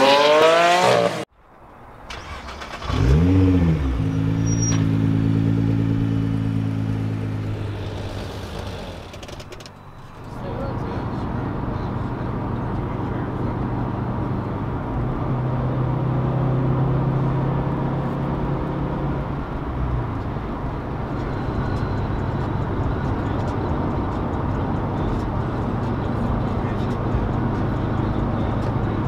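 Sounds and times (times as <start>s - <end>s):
tyre and road noise: 0.0s - 29.0s
car engine droning: 2.0s - 29.0s.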